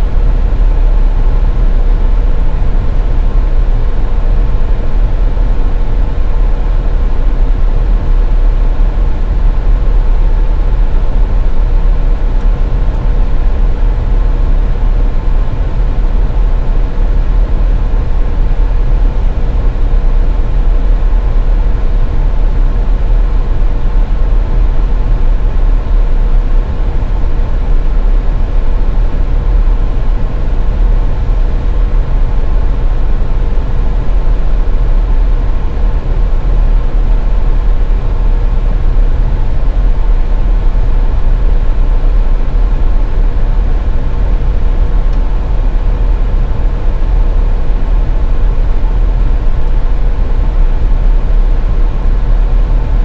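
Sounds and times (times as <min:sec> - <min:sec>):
faint constant hum: 0:00.0 - 0:53.0.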